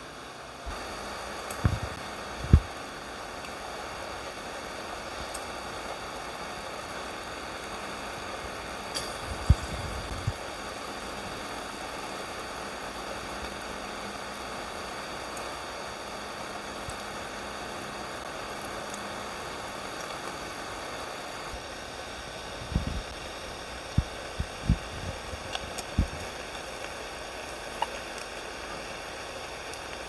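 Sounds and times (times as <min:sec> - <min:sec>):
meat sizzling in waffle maker: 0:00.0 - 0:30.0.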